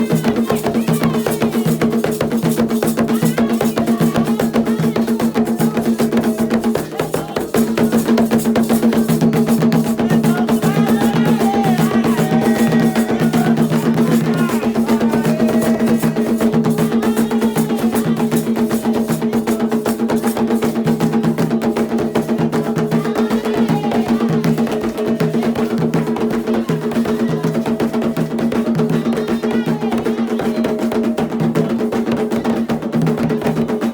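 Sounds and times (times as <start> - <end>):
drums and percussion: 0.0 - 33.9
voices singing: 0.0 - 33.9.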